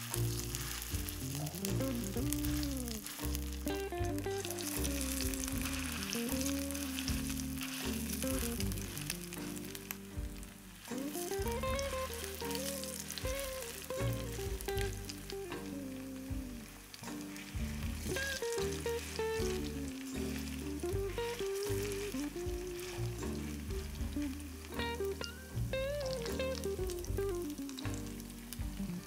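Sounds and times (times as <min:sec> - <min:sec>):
melodic background music: 0:00.0 - 0:29.0
patties sizzling in oil: 0:00.0 - 0:29.0.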